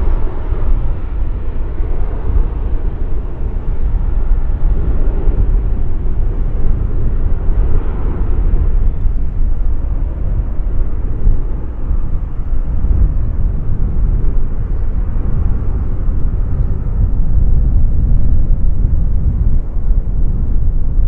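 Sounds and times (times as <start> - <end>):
jet engines rumbling at take-off: 0.0 - 21.0.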